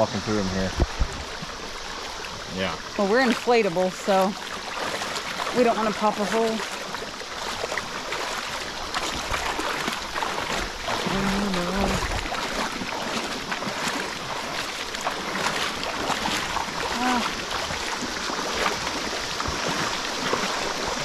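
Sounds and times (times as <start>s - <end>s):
water rushing over gravel: 0.0s - 21.0s.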